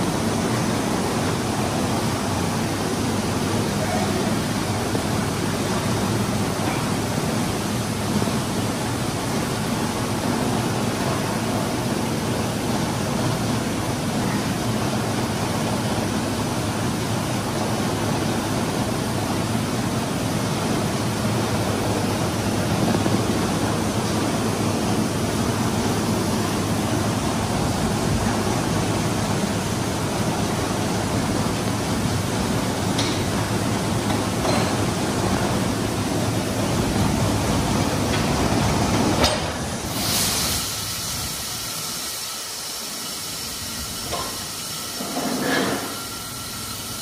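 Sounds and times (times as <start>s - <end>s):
grain store machinery running: 0.0s - 47.0s.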